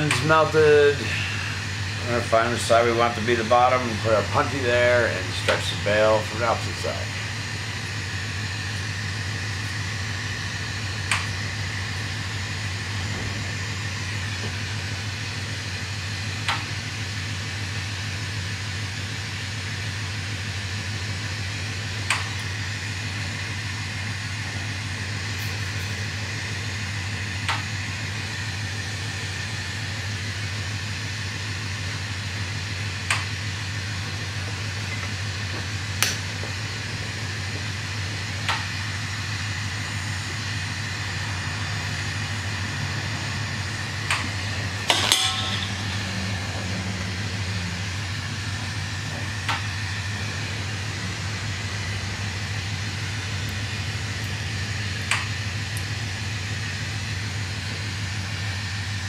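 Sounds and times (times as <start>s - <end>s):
low hum: 0.0s - 59.0s
ventilation fan: 0.0s - 59.0s.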